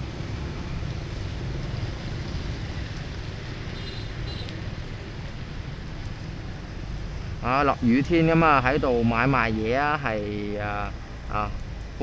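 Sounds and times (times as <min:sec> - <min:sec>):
vehicle rumble in traffic: 0:00.0 - 0:12.0.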